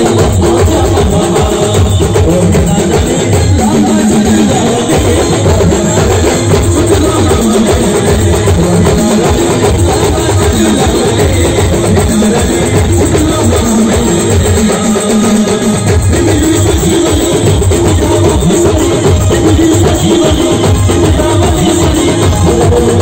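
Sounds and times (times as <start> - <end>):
live band playing amplified music: 0.0 - 23.0
pounding drums: 0.0 - 23.0.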